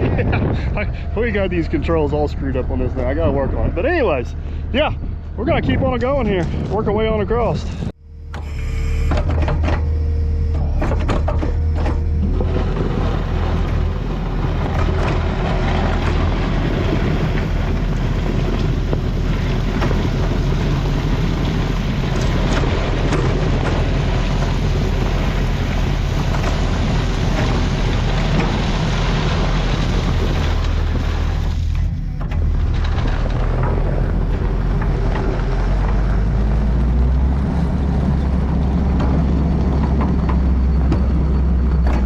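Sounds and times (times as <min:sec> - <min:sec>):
diesel engine running under load: 0:00.0 - 0:06.8, 0:07.7 - 0:42.0.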